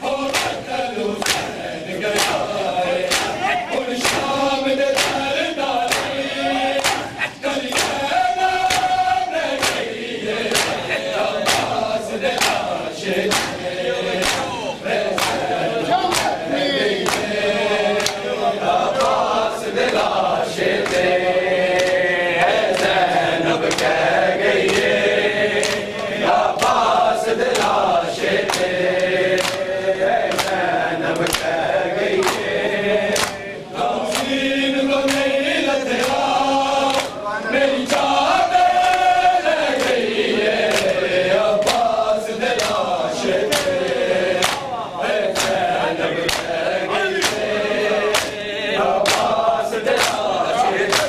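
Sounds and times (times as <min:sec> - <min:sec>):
men chanting together: 0:00.0 - 0:51.0
hand slaps on chests: 0:00.1 - 0:17.4, 0:18.0 - 0:25.0, 0:25.6 - 0:37.2, 0:37.8 - 0:51.0.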